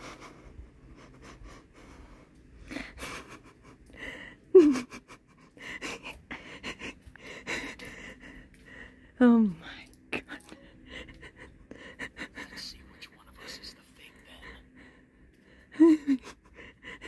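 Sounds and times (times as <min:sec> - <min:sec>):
breathy panting: 0:00.0 - 0:09.2, 0:10.6 - 0:12.7, 0:14.4 - 0:17.0.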